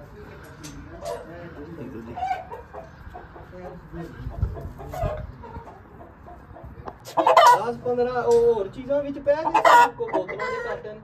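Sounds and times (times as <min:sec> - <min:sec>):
hens clucking softly: 0:00.4 - 0:07.8, 0:09.4 - 0:11.0.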